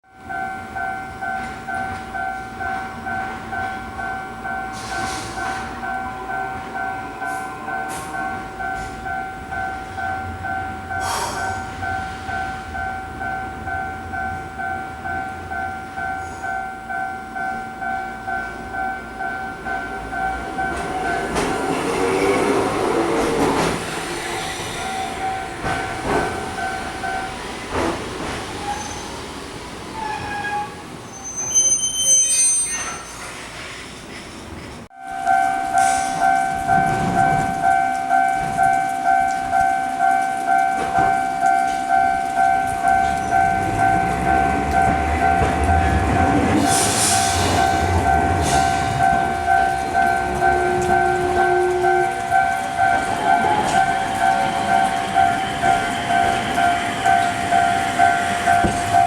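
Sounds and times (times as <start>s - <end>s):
crossing bell two-tone dings: 0.1s - 22.3s, 24.8s - 27.4s, 34.9s - 59.0s
tram wheels squealing: 0.2s - 59.0s.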